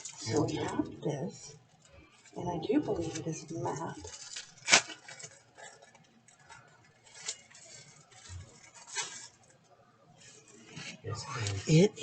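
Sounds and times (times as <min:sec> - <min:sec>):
paper map rustling open: 0:02.0 - 0:11.8.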